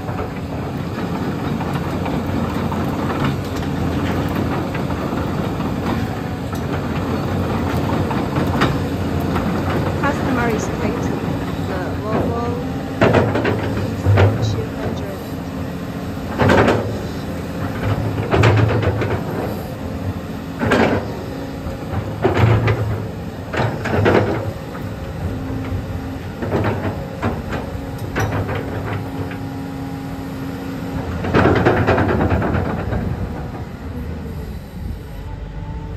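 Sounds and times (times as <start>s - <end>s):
excavator diesel engine: 0.0s - 35.9s.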